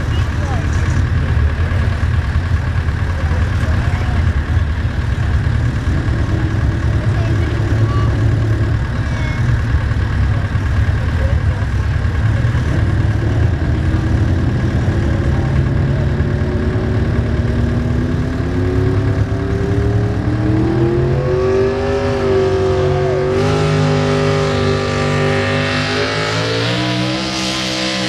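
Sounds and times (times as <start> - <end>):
truck engine running hard: 0.0 - 28.0.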